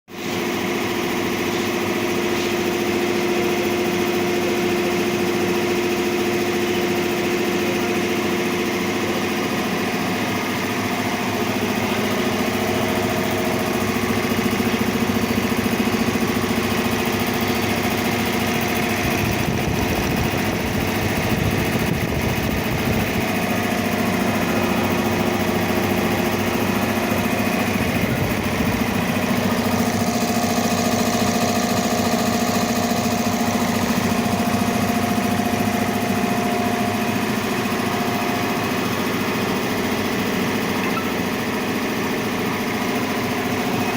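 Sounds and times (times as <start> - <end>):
compressor droning: 0.2 - 43.9.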